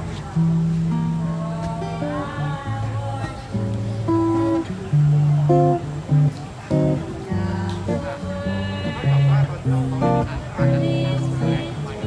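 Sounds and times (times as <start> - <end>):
plucked and strummed guitar: 0.0 - 12.0.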